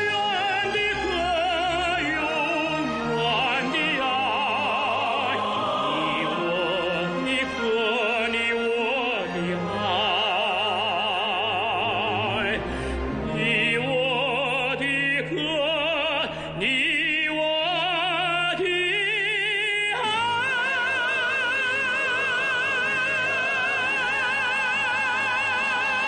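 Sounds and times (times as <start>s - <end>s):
person singing with vibrato: 0.0s - 26.0s.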